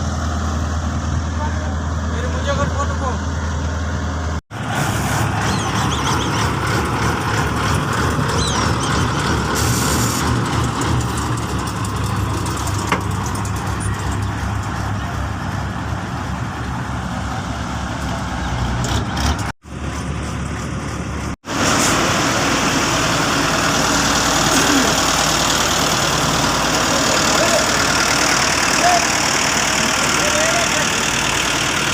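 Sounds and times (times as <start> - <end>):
heavy paving machinery engines: 0.0 - 31.9.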